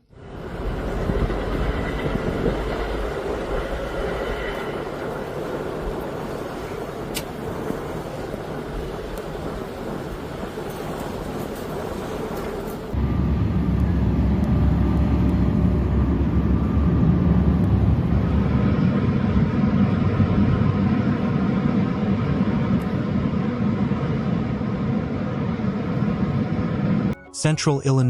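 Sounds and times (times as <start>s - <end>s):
vehicle engine rumble: 0.0s - 27.2s.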